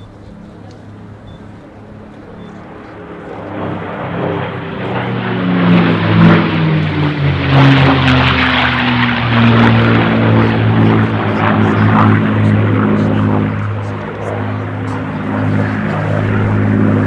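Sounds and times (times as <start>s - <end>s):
propeller plane engine flypast: 0.0s - 17.0s.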